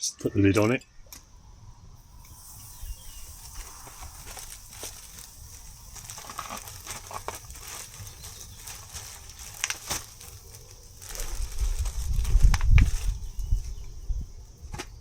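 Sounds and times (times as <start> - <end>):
food sizzling on a grill: 2.0 - 14.4.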